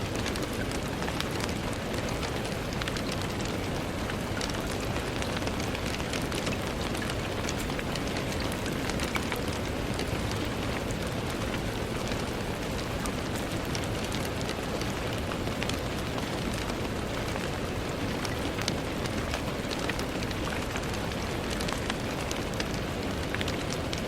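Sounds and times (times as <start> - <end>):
rain on a window: 0.0 - 24.0.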